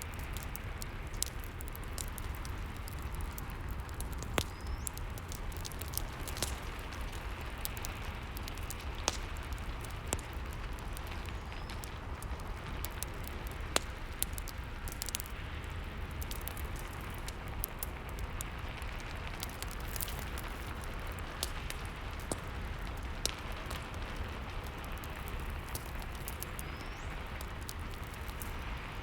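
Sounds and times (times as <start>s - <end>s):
fireplace crackling and popping: 0.0s - 29.0s.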